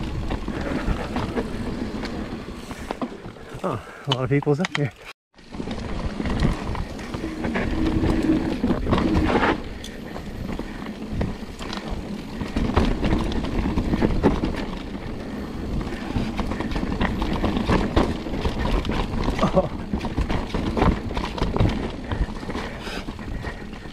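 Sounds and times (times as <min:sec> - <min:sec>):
bike rattling over bumps: 0:00.0 - 0:23.9
tyres rumbling on dirt: 0:00.0 - 0:23.9.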